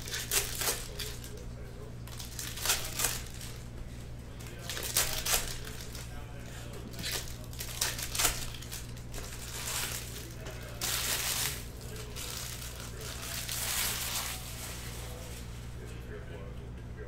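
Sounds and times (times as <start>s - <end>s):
foil wrappers crinkling and tearing: 0.0s - 15.8s.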